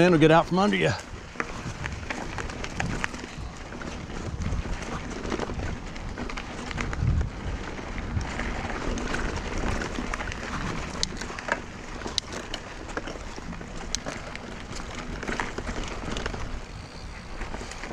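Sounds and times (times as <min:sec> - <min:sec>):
bike rattling over bumps: 0:00.0 - 0:17.9
bike tyres crunching through sand: 0:00.0 - 0:17.9
wind rumble on microphone: 0:00.0 - 0:17.9.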